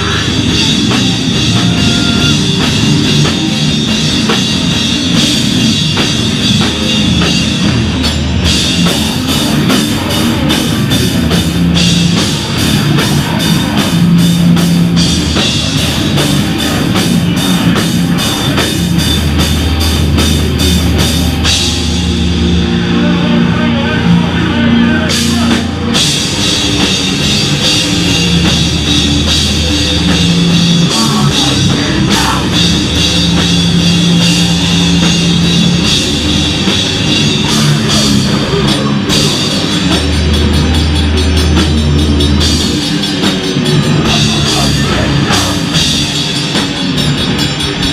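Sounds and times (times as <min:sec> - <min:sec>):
fast drum and cymbal hits: 0:00.0 - 0:22.8, 0:25.1 - 0:47.9
bass guitar: 0:00.0 - 0:47.9
distorted electric guitar: 0:00.0 - 0:47.9.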